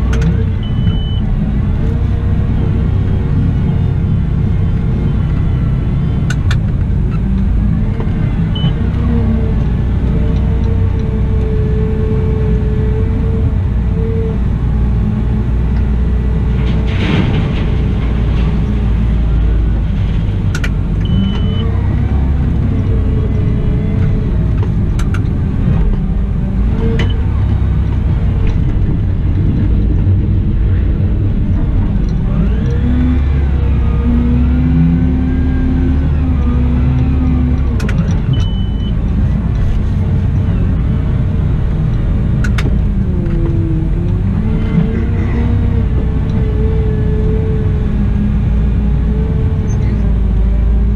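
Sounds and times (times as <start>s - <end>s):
wheel loader diesel engine: 0.0s - 50.9s.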